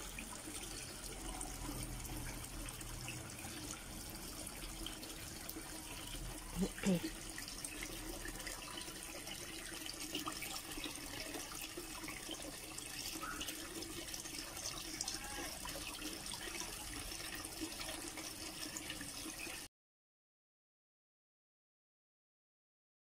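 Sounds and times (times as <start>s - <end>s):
aquarium water trickling: 0.0s - 19.7s.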